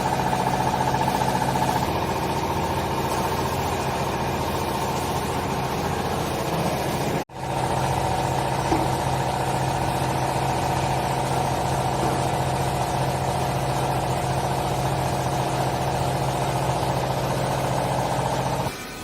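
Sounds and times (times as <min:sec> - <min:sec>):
electric motor and pump humming: 0:00.0 - 0:19.0.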